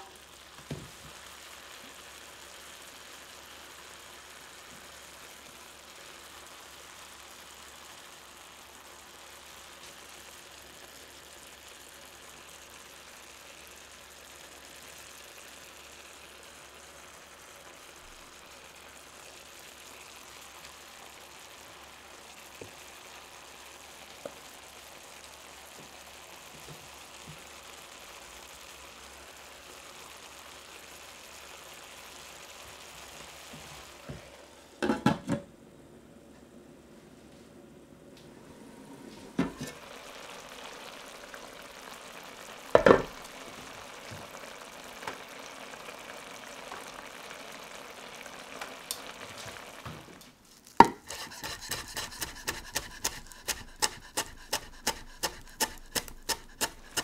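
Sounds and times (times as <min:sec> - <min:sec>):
food sizzling in a pot: 0:00.0 - 0:36.6, 0:38.3 - 0:57.0.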